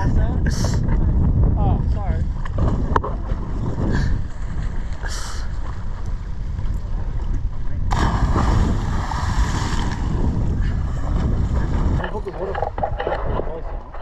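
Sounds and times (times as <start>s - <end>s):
wind buffeting microphone: 0.0s - 14.0s
water rushing along boat hull: 2.0s - 14.0s.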